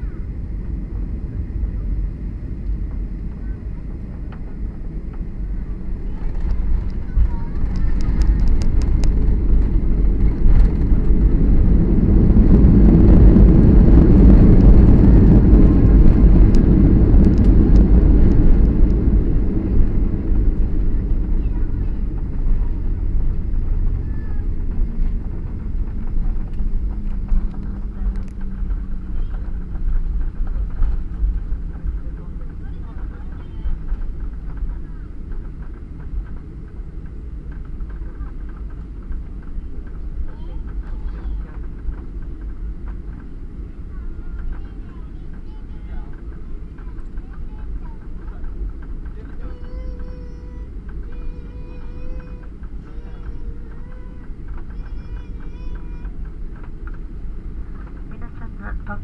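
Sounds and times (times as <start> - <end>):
aircraft landing rumble in cabin: 0.0 - 59.0.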